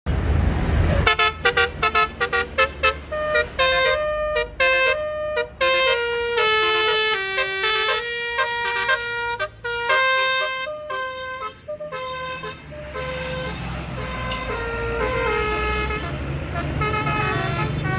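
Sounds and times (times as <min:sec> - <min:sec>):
multi-tone bus horn tune: 0:00.8 - 0:17.9.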